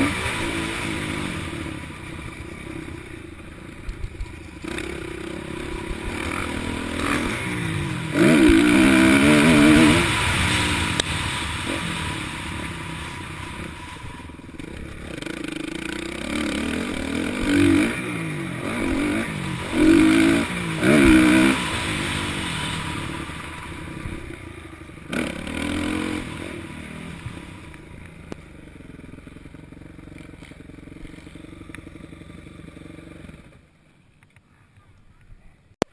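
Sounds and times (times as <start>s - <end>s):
motocross bikes revving: 0.0s - 33.6s.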